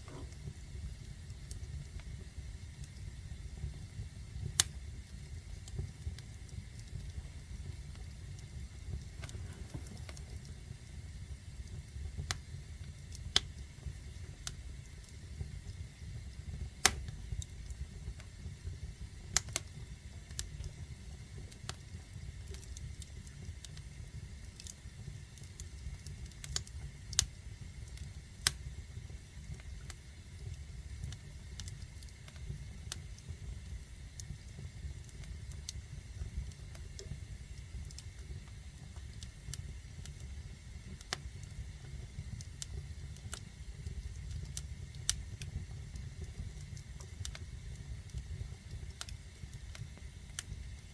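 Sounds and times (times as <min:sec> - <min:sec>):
fire crackling and popping: 0:00.0 - 0:50.9
fire low rumble: 0:00.0 - 0:50.9.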